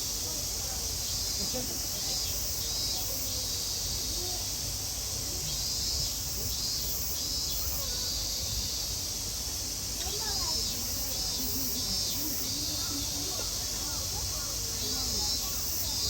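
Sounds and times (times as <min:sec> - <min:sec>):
faint distant voices: 0:00.0 - 0:16.0
insects droning: 0:00.0 - 0:16.0.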